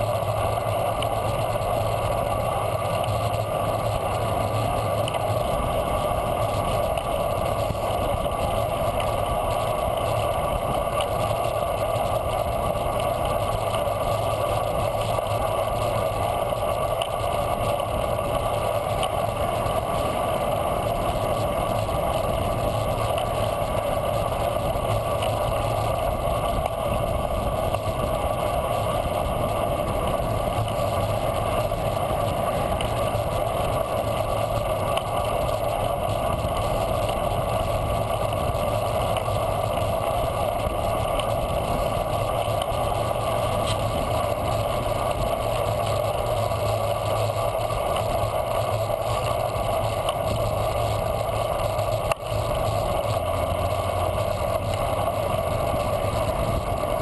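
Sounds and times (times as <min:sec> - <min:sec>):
bicycle tyre noise on pavement: 0:00.0 - 0:57.0.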